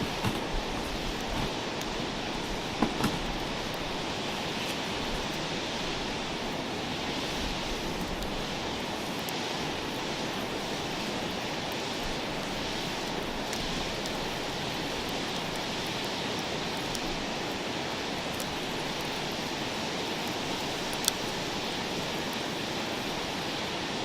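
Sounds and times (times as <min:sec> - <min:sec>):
fire crackling and popping: 0:00.0 - 0:23.9
campfire hissing: 0:00.0 - 0:24.0.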